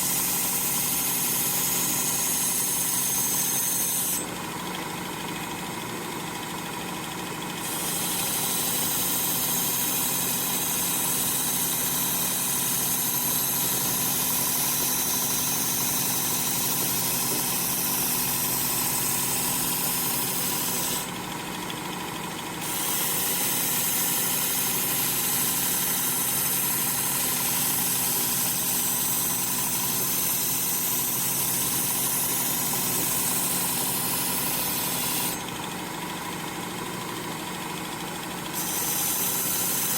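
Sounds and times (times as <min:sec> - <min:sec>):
sharpener motor humming: 0:00.0 - 0:04.4, 0:07.6 - 0:21.2, 0:22.6 - 0:35.7, 0:38.5 - 0:39.9.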